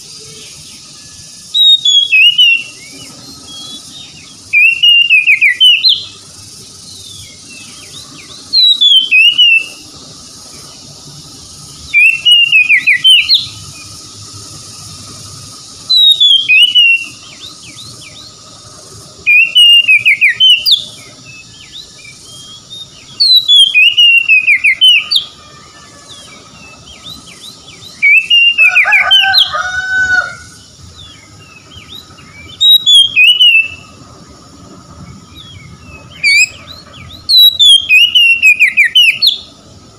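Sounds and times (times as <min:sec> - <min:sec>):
bird singing whistled phrases: 0:00.0 - 0:06.2, 0:06.8 - 0:10.8, 0:11.8 - 0:13.9, 0:15.6 - 0:18.5, 0:19.1 - 0:30.2, 0:31.0 - 0:34.0, 0:35.1 - 0:39.6.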